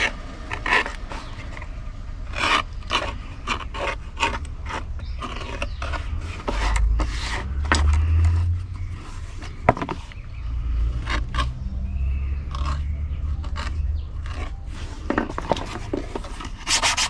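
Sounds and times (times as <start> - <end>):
hand sanding leather: 0.0 - 9.6, 12.5 - 17.0.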